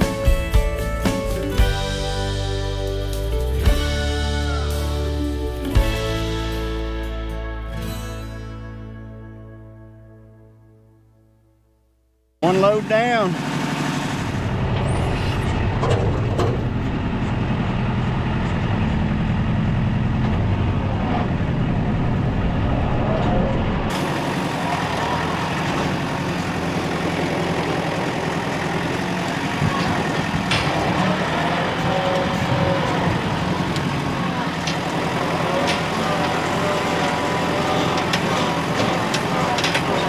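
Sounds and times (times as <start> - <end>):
tractor diesel engine running: 0.0 - 8.4, 12.4 - 40.0.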